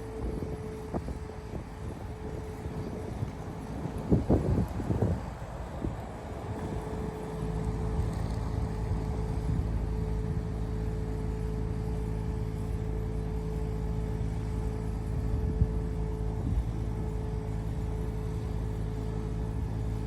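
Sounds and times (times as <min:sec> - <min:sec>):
thin steady whine: 0:00.0 - 0:20.0
truck engine rumble: 0:00.0 - 0:20.0.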